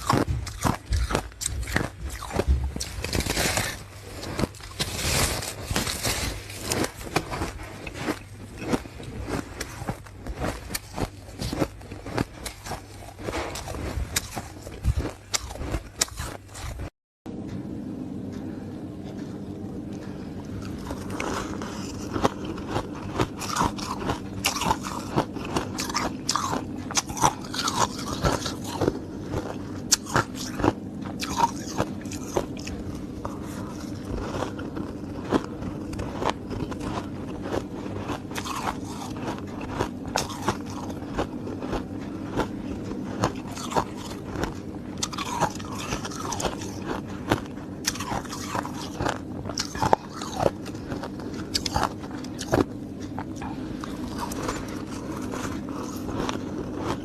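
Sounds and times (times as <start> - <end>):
person crunching ice: 0.0 - 16.9, 20.6 - 57.0
low hum: 0.0 - 57.0.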